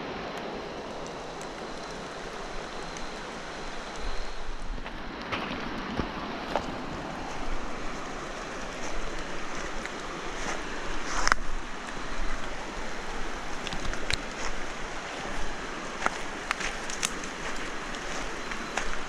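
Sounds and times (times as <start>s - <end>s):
river water rushing: 0.0s - 19.0s
wind rumbling on microphone: 0.0s - 19.0s.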